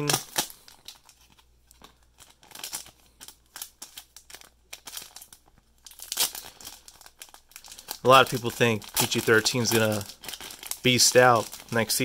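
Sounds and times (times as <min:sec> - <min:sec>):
plastic card sleeve crinkling: 0:00.0 - 0:12.0.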